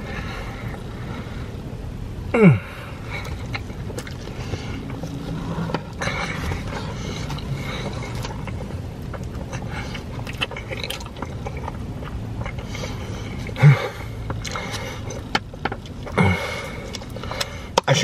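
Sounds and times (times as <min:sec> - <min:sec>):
low rumble: 0:00.0 - 0:17.7
chewing and wet mouth sounds: 0:03.0 - 0:18.0.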